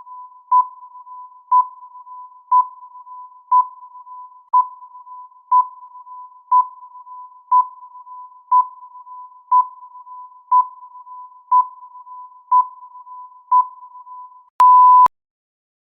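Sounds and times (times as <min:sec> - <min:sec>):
long loud beep: 0:00.0 - 0:15.1
short countdown beeps: 0:00.0 - 0:15.1.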